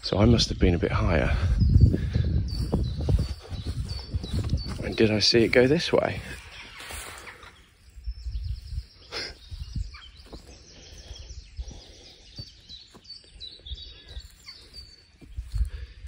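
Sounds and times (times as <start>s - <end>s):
small birds singing and chirping: 0.0s - 16.0s.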